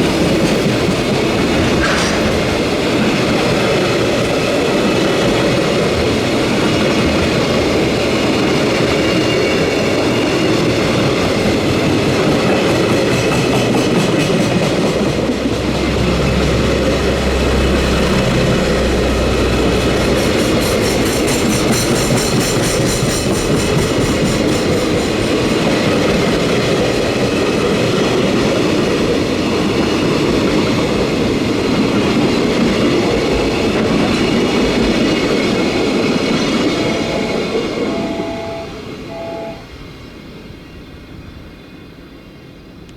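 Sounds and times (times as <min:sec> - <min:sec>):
wheels clacking over rail joints: 0:00.0 - 0:38.0
freight train wagons rolling past: 0:00.0 - 0:42.7.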